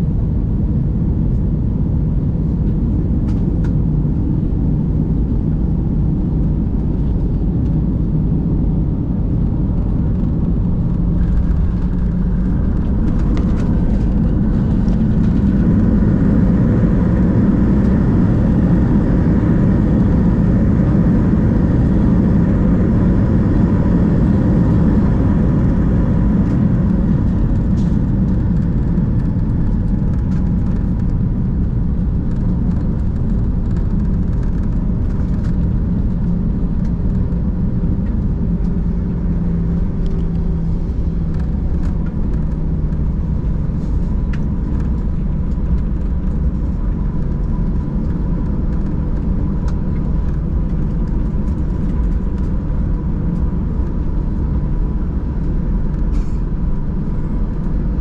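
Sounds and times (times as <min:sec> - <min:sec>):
airliner engines and wheels rumbling: 0:00.0 - 0:58.0.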